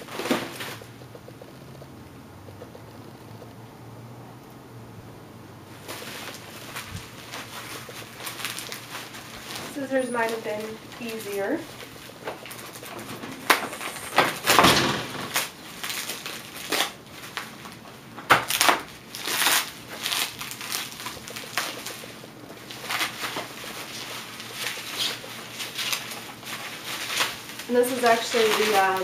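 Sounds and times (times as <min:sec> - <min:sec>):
bubble wrap crinkling: 0:00.0 - 0:01.2, 0:05.7 - 0:29.0.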